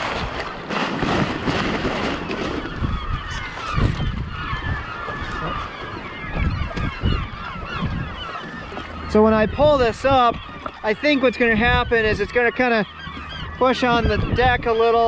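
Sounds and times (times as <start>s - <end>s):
wind noise: 0.0s - 12.4s, 13.2s - 15.0s
flock of birds calling: 1.0s - 15.0s.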